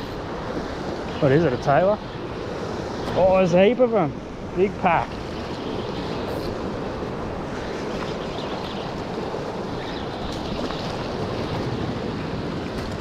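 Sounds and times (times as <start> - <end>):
ocean surf against rock: 0.0 - 13.0.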